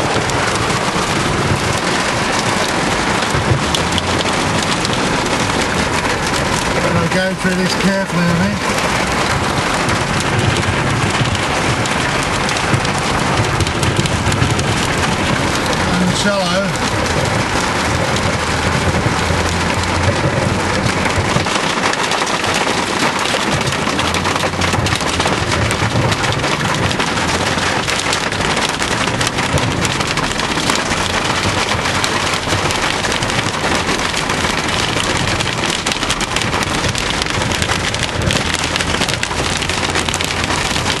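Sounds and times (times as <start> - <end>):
heavy rain on a vehicle roof: 0.0 - 41.0
water splashing against a vehicle: 0.0 - 41.0.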